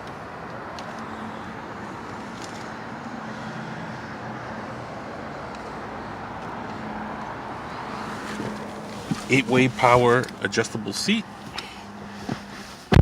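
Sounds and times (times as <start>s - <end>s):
vehicle hum and hiss: 0.0s - 13.0s.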